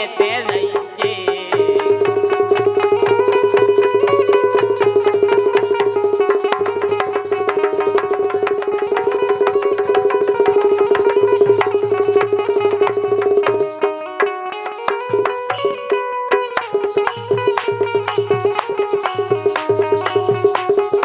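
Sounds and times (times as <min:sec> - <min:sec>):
fast hand-drum rhythm: 0:00.0 - 0:21.0
sustained melodic instrument: 0:00.0 - 0:21.0.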